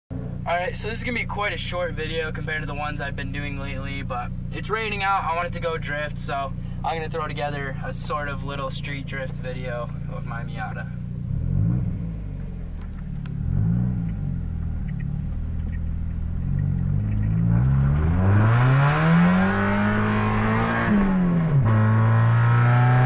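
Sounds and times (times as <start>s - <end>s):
car engine revving: 0.1s - 23.0s.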